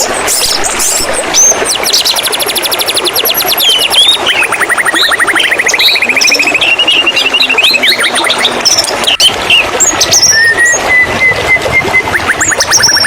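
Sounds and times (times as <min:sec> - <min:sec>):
flowing water: 0:00.0 - 0:13.0
bird singing trills and whistles: 0:00.4 - 0:13.0.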